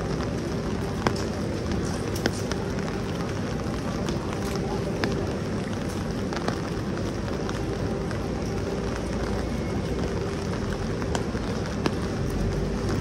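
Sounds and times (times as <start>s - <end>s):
rain: 0.0s - 13.0s
traffic: 0.0s - 13.0s.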